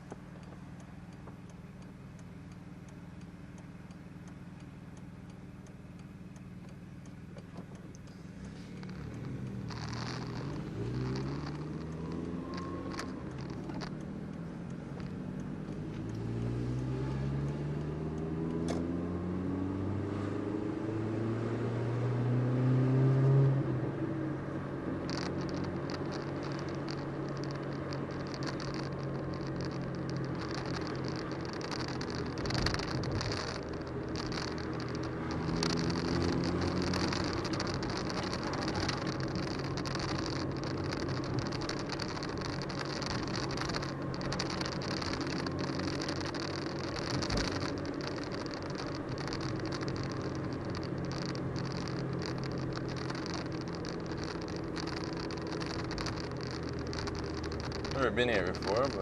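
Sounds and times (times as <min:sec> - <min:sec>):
car engine accelerating: 0:00.0 - 0:59.0
leaking exhaust: 0:00.0 - 0:59.0.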